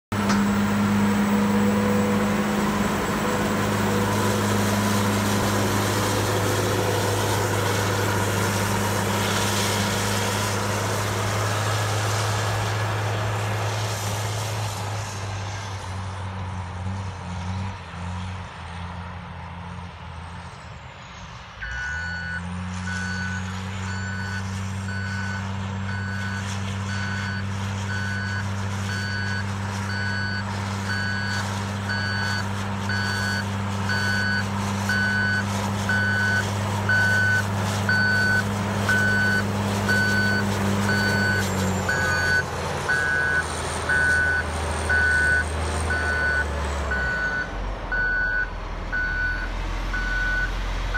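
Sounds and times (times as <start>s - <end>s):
diesel engine: 0.0s - 50.9s.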